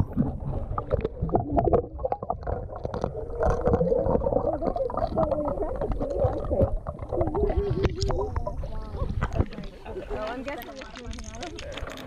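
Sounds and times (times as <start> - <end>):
pool water splashing: 0.0 - 12.0.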